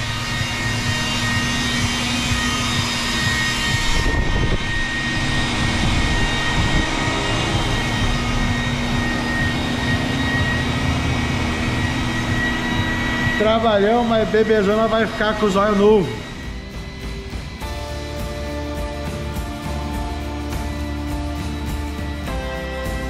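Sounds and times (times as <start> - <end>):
electric polisher whining: 0.0 - 23.0.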